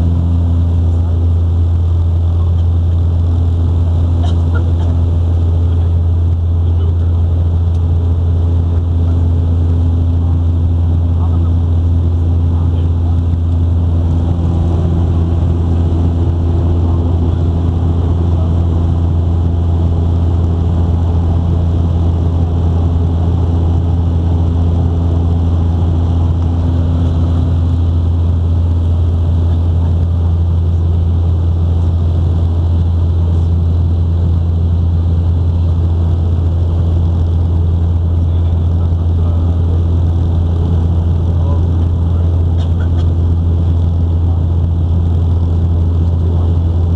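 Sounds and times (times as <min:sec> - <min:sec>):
turboprop engines droning in cabin: 0:00.0 - 0:46.9.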